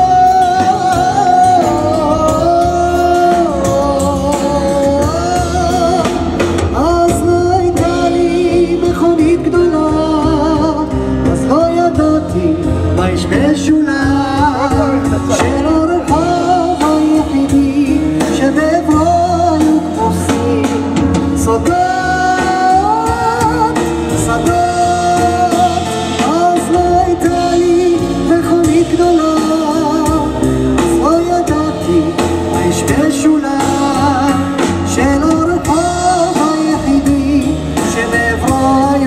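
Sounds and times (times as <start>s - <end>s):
drums: 0.0s - 39.0s
man singing: 0.0s - 39.0s
stage piano: 0.0s - 39.0s
upright bass: 0.0s - 39.0s.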